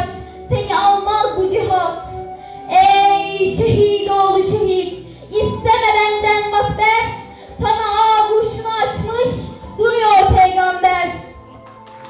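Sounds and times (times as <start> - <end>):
backing music: 0.0 - 12.0.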